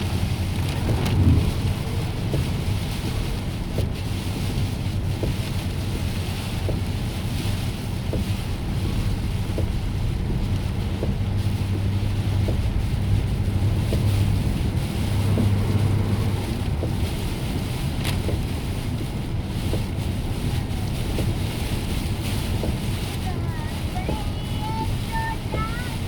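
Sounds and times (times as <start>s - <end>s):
car engine and road drone: 0.0s - 26.0s
rain: 0.0s - 26.0s
tyres hissing on wet pavement: 0.0s - 26.0s.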